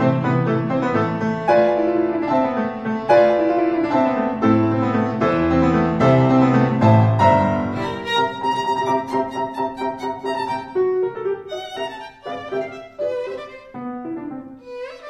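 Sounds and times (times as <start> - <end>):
piano chords and slow melody: 0.0 - 15.0.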